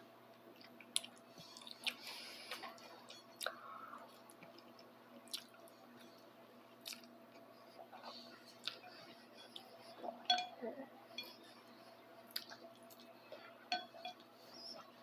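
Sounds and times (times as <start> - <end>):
faint chewing: 0.4 - 15.0.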